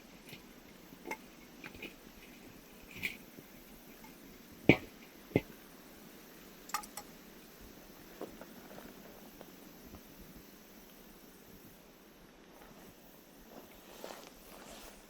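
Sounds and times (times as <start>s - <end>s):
wood fire popping and crackling: 0.0s - 14.5s
faint steady hiss: 0.0s - 15.0s.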